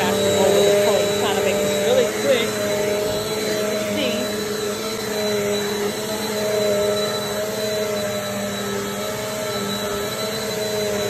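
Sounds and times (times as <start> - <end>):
upright vacuum cleaner on carpet: 0.0 - 11.0.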